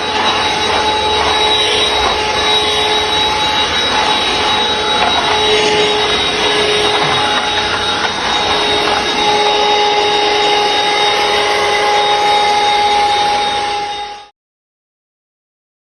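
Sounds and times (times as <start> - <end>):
handheld vacuum cleaner running: 0.0 - 14.3.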